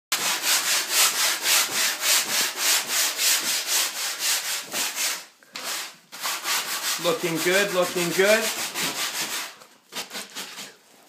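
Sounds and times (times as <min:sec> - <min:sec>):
sandpaper scratching on wood: 0:00.2 - 0:10.8.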